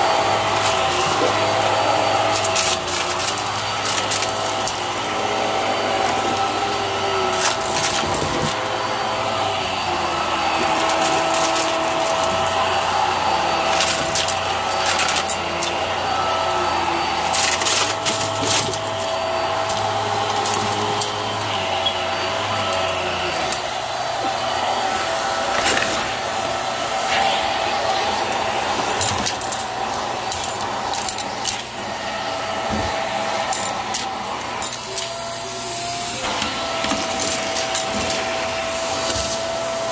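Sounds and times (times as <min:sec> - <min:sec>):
debris rattling up vacuum nozzle: 0:00.0 - 0:39.8
stick vacuum motor whine: 0:00.0 - 0:39.9.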